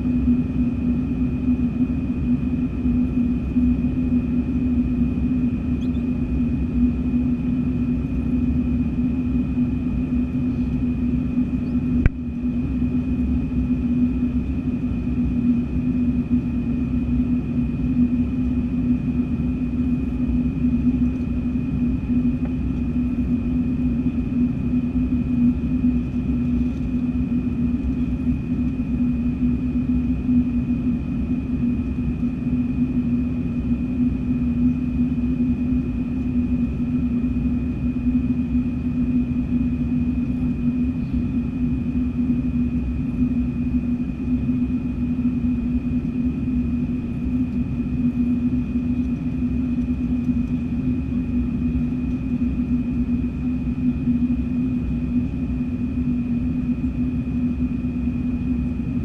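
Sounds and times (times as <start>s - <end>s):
aircraft cabin drone: 0.0s - 59.0s.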